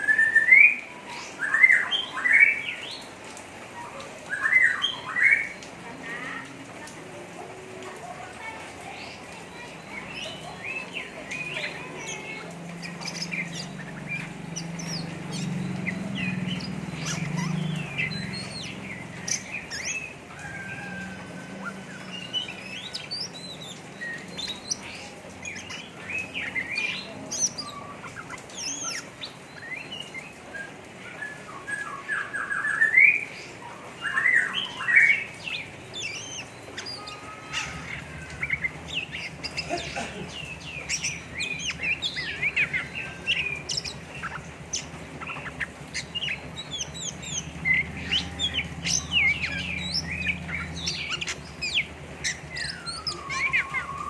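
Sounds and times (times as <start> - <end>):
bird chattering song: 8.3 - 54.0.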